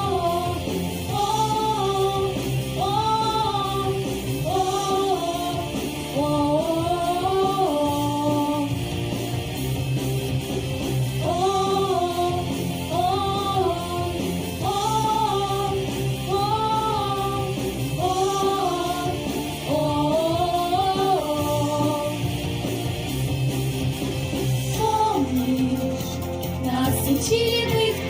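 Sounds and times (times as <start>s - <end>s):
children's vocal melody: 0.0s - 8.9s, 11.1s - 22.6s, 24.6s - 28.0s
pop backing track with guitar: 0.0s - 28.0s.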